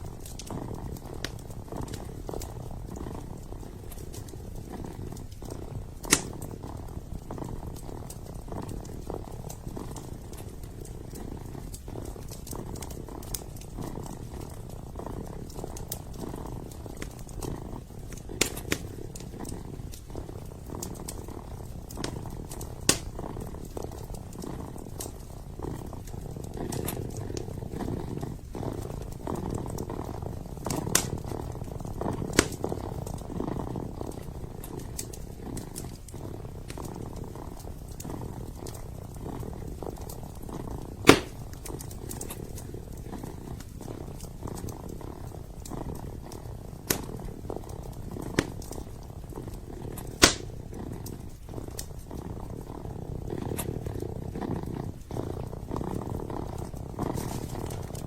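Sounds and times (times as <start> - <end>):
kitten purring: 0.0 - 58.0
wood fire crackling: 0.0 - 58.0.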